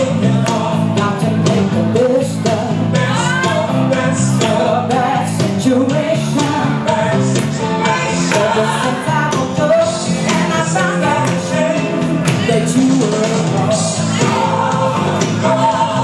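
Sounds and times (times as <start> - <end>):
backing music with beat and bass: 0.0 - 16.0
woman singing soul song: 0.9 - 16.0.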